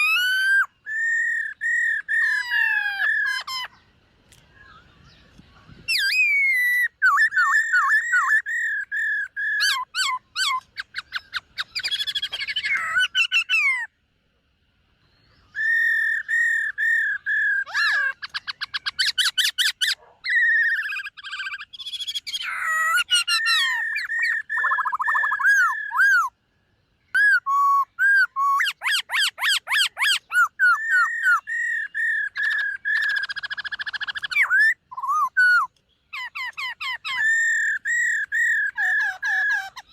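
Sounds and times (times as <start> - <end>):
bird whistled song with trills: 0.0 - 14.0, 15.0 - 39.9.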